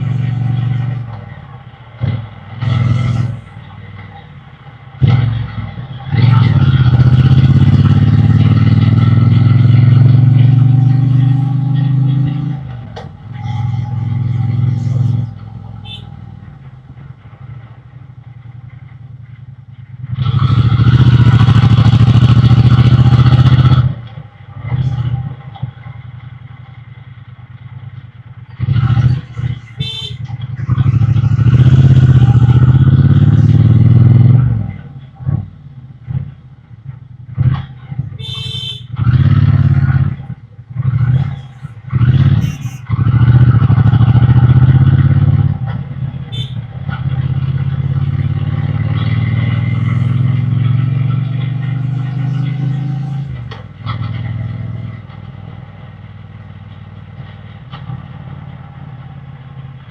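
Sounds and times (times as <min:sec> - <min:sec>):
motorcycle engine revving: 0:00.0 - 0:01.4, 0:02.0 - 0:04.1, 0:04.9 - 0:19.0, 0:19.8 - 0:35.4, 0:37.2 - 0:59.9.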